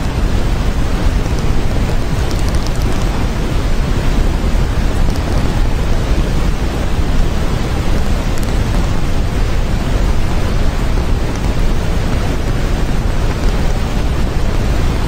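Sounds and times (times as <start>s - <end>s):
steady white noise hiss: 0.0s - 15.0s.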